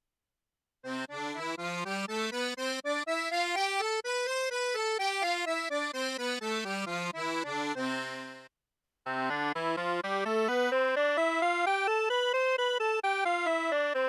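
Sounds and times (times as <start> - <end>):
accordion playing a quick melody: 0.8 - 8.5, 9.1 - 14.0.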